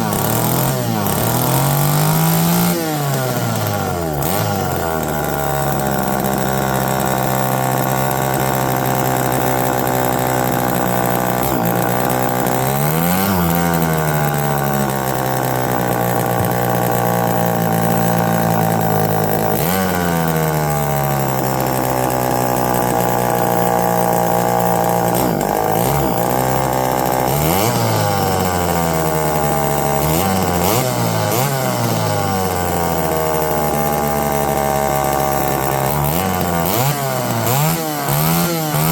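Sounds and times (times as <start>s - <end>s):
chainsaw engine idling and revving: 0.0s - 38.9s.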